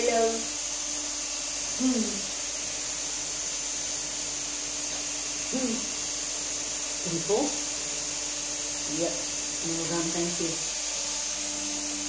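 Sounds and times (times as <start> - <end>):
rotary sanding tool running: 0.0 - 12.0.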